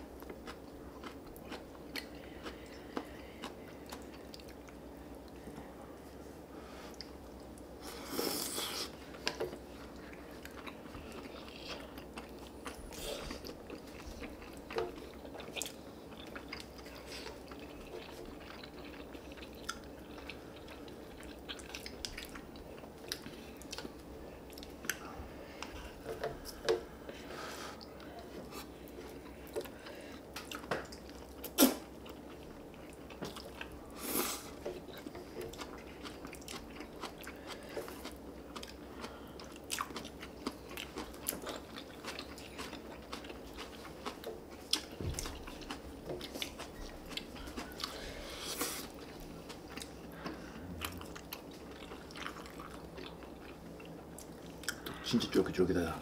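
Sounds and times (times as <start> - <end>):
people chewing: 0.1 - 55.6.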